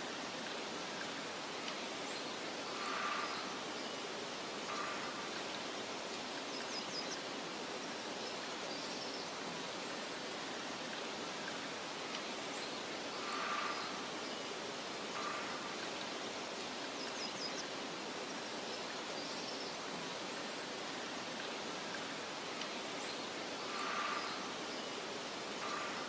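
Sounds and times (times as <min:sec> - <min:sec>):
wind through grass: 0:00.0 - 0:26.0
faint bird calls and chirps: 0:00.1 - 0:26.0.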